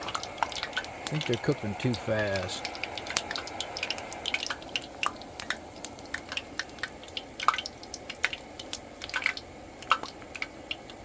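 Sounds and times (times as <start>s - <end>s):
biscuits frying in hot oil: 0.0s - 11.0s.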